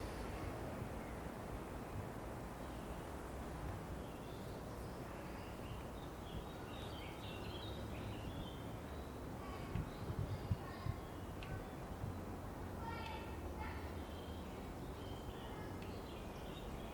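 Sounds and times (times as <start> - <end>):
small birds chirping: 0.0 - 3.2, 3.8 - 16.9.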